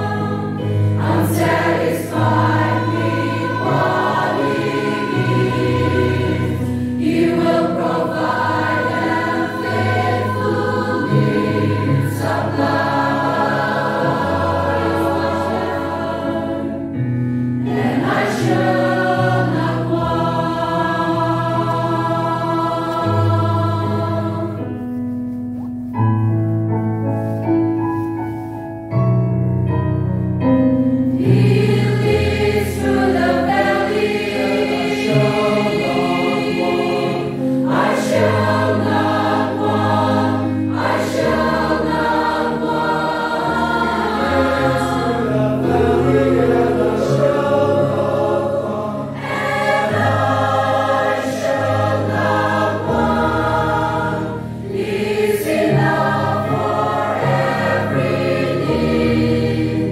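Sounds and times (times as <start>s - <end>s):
choir singing a hymn: 0.0s - 25.0s, 31.1s - 59.9s.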